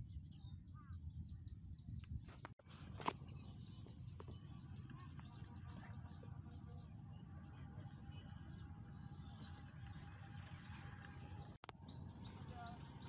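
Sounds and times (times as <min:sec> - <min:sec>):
distant birds chirping: 0:00.0 - 0:13.0
low wind rumble on microphone: 0:00.0 - 0:13.0.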